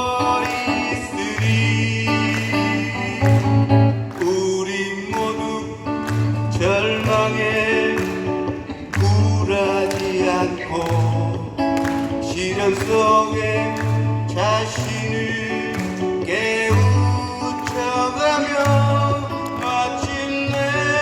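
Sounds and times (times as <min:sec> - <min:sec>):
guitar accompaniment: 0:00.0 - 0:21.0
man singing slow melody: 0:00.0 - 0:21.0.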